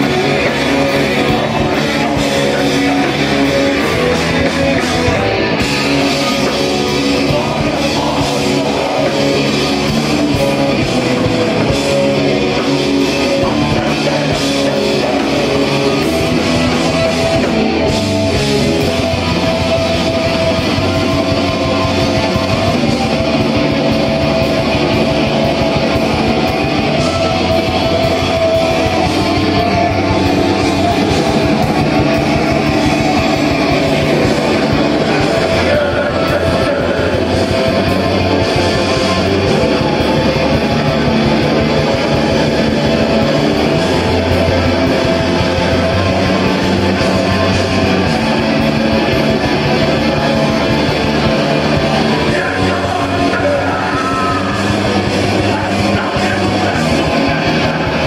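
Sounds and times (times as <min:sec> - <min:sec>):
heavy rock band playing live: 0:00.0 - 0:58.0.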